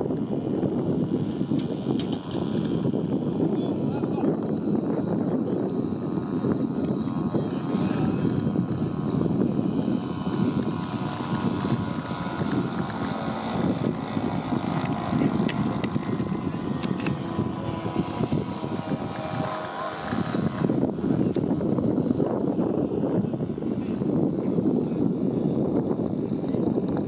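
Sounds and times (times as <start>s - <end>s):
model plane engine droning: 0.0s - 27.0s.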